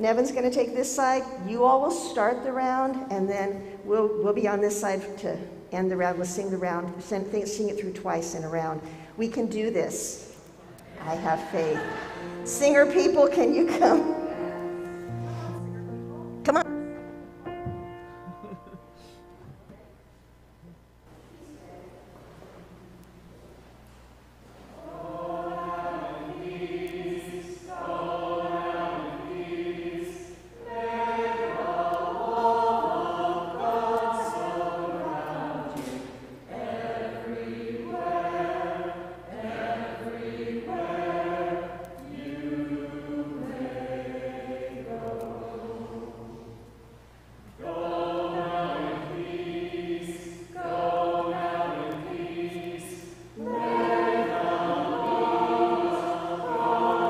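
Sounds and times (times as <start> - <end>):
congregation singing a hymn: 1.0 - 18.8, 24.6 - 57.0.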